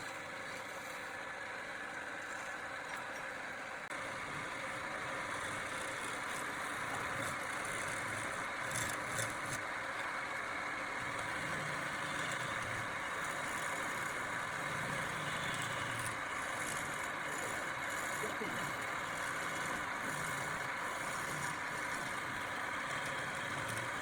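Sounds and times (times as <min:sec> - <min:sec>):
steady mechanical drone: 0:00.0 - 0:24.0.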